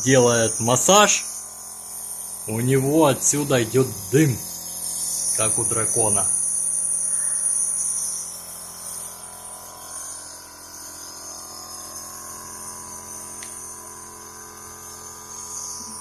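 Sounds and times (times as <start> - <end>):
nebulizer motor drone: 0.0 - 16.0.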